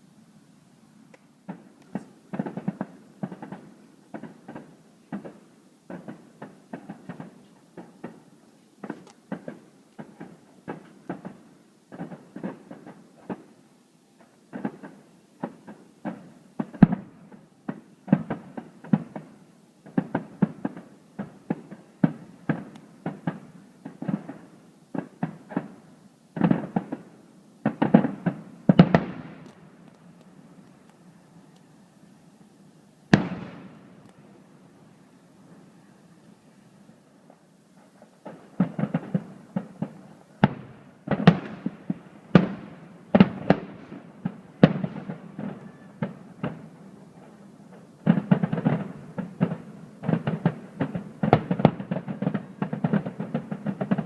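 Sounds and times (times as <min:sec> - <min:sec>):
fireworks bursting with bangs: 0:01.1 - 0:31.1, 0:33.0 - 0:35.8, 0:36.7 - 0:54.0.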